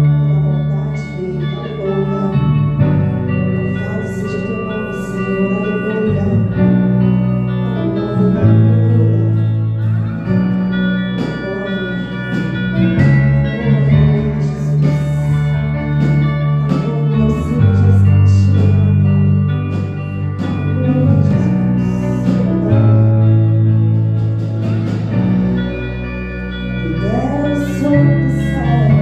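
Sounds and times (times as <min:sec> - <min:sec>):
band playing instrumental: 0:00.0 - 0:29.0.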